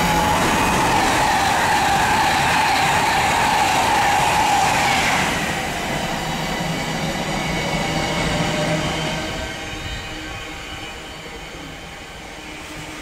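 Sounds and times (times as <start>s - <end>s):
electric train passing with whine: 0.0s - 13.0s
freight train rumbling: 0.0s - 13.0s.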